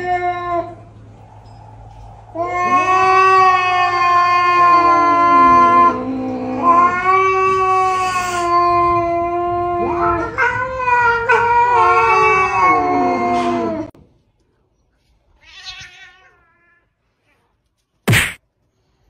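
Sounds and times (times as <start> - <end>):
cats yowling: 0.0 - 14.0, 15.4 - 17.4.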